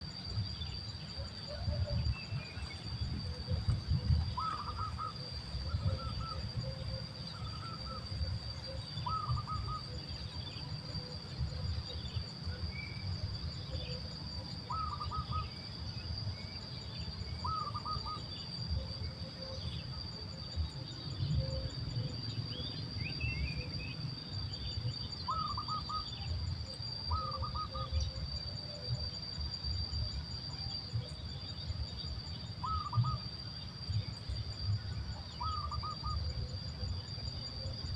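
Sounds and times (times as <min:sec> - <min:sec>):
high-pitched insect drone: 0:00.0 - 0:37.9.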